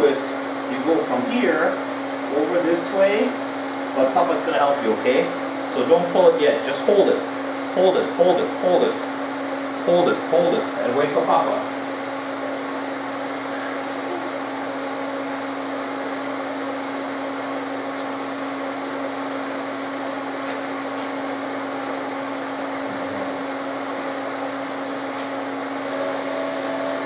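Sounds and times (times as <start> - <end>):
machine fan whirring hum: 0.0 - 27.0.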